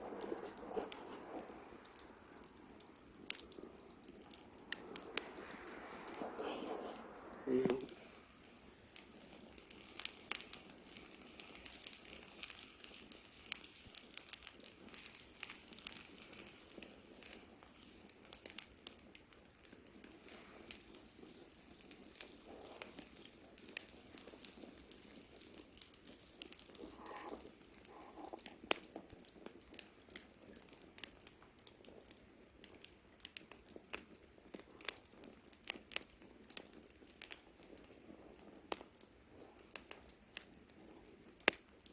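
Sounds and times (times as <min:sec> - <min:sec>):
campfire crackling: 0:00.0 - 0:41.9
faint fire hiss: 0:00.0 - 0:41.9.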